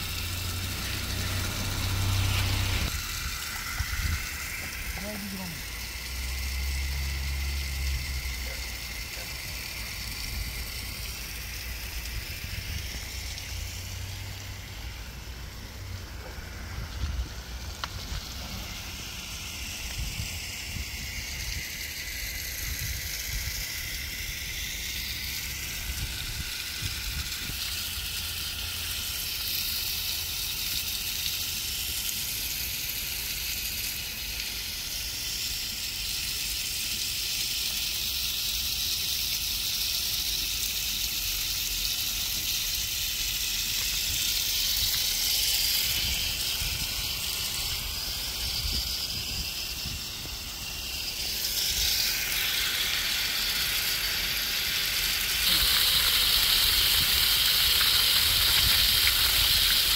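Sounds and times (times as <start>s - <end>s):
sprinklers spraying water: 0.0s - 59.9s.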